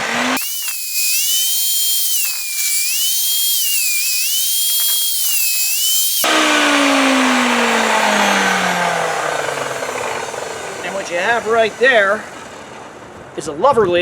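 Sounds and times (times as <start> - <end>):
saw blade spinning down: 0.0 - 12.7
table saw cutting wood: 0.0 - 12.8.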